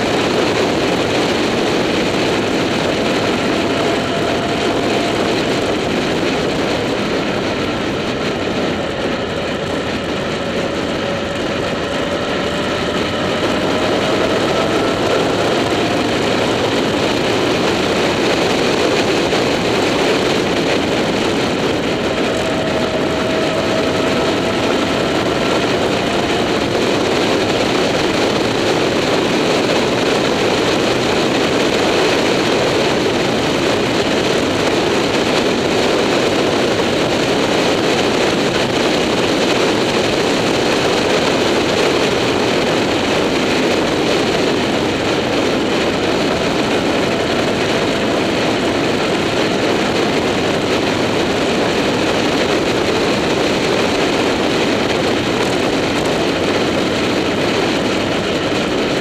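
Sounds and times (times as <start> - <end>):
motorcycle engine: 0.0 - 59.0
wind rushing on microphone: 0.0 - 59.0.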